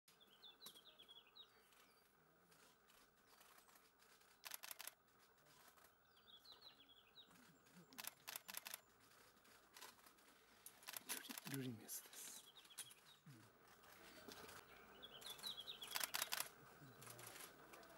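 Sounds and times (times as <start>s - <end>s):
bird chirping: 0.1s - 4.9s, 5.6s - 9.9s, 10.8s - 13.5s, 14.4s - 17.9s.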